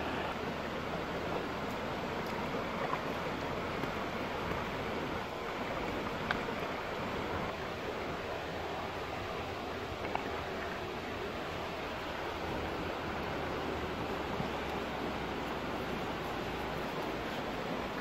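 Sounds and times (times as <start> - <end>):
stream flowing over stones: 0.0 - 18.0.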